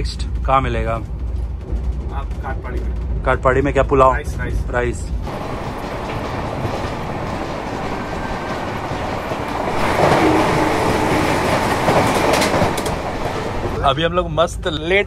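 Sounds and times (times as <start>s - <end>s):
train wheels clattering over rails: 0.0s - 14.1s
passing train: 0.0s - 15.0s.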